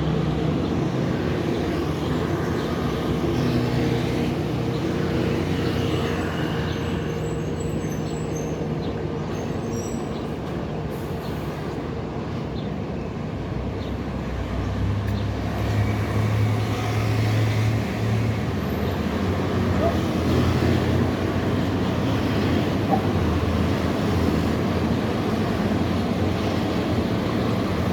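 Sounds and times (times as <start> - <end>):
truck engines passing: 0.0 - 27.9.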